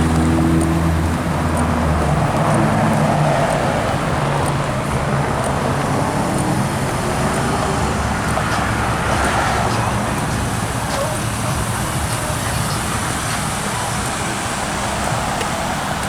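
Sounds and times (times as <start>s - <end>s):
low engine hum: 0.0s - 16.0s
road noise: 0.0s - 16.0s.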